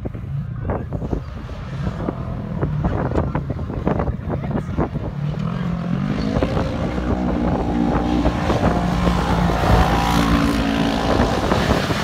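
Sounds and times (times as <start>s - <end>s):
utv engines revving hard: 0.1s - 12.0s.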